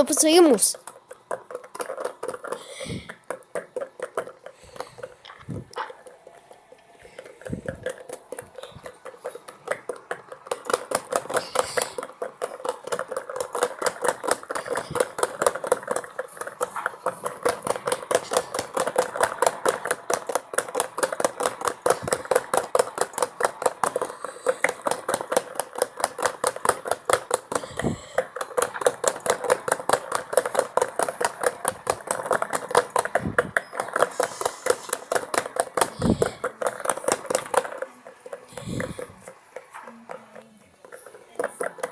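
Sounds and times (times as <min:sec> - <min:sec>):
small washing machine rattling: 0:00.0 - 0:41.9.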